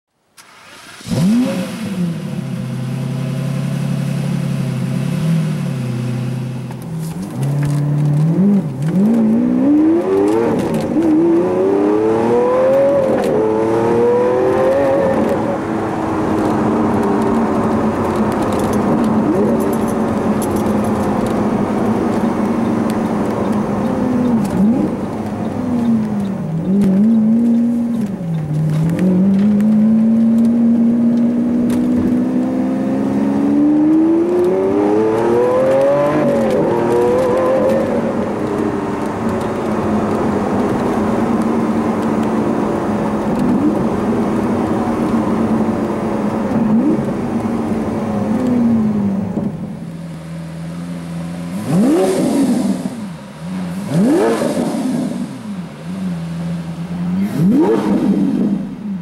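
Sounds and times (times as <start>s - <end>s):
car engine from inside cabin: 0.4s - 59.0s.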